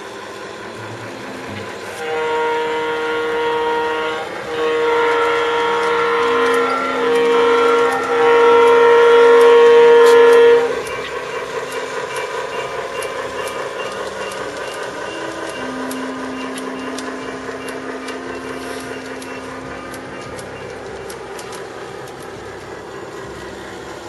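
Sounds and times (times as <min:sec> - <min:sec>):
synthesized diesel engine sound: 0:00.0 - 0:24.0
wheels clicking over track: 0:00.7 - 0:24.0
model train diesel horn: 0:01.7 - 0:11.2, 0:14.2 - 0:24.0.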